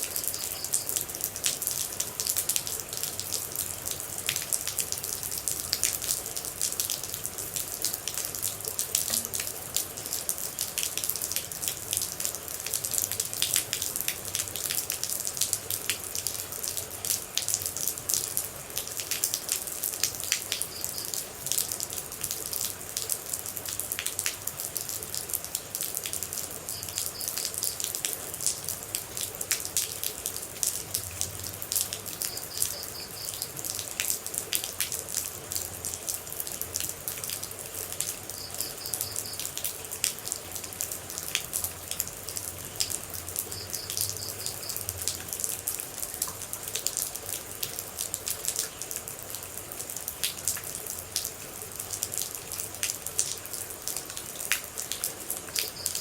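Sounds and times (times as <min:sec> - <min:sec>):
rain dripping and splashing: 0:00.0 - 0:56.0.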